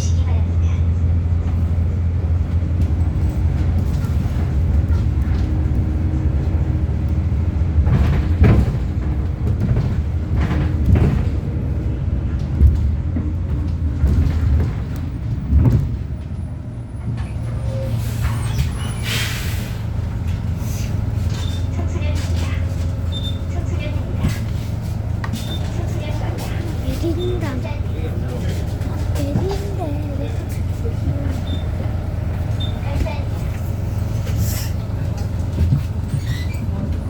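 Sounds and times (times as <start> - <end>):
bus engine drone: 0.0 - 37.0
body knocks and rattles: 2.5 - 17.3, 21.2 - 37.0.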